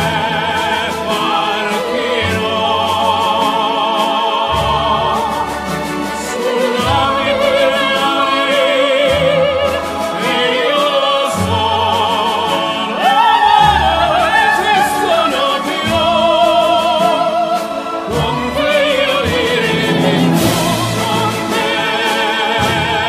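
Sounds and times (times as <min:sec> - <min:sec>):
operatic voice singing: 0:00.0 - 0:23.0
orchestral accompaniment: 0:00.1 - 0:11.4, 0:14.1 - 0:23.0.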